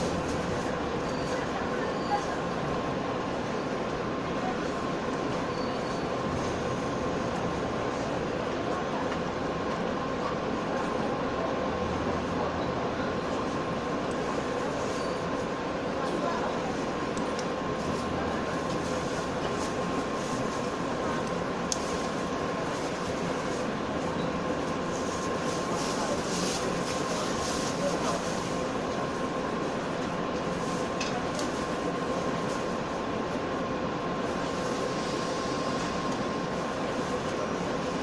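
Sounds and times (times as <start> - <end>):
train running noise: 0.0 - 38.0.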